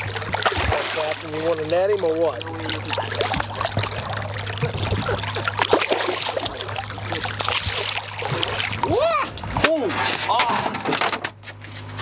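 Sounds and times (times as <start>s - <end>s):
water splashing and trickling: 0.0s - 10.5s
steady low hum: 0.0s - 12.0s.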